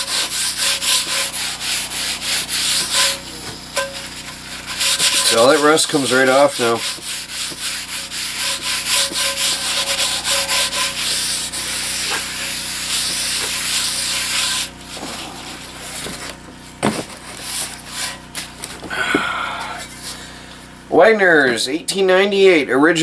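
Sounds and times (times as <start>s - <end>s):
paper towel scrubbing skillet: 0.0s - 18.6s.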